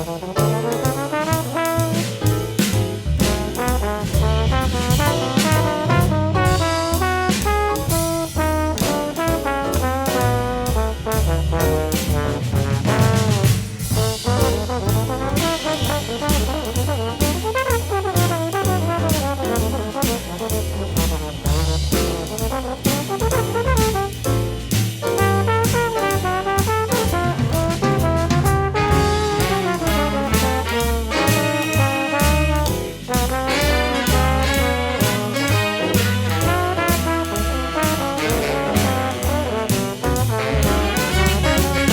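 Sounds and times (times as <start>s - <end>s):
jazz big band playing: 0.0s - 41.9s.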